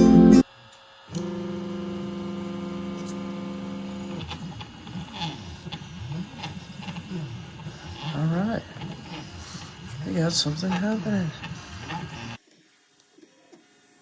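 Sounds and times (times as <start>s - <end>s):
printer humming: 0.0s - 12.4s
stepper motors whirring: 0.4s - 14.0s.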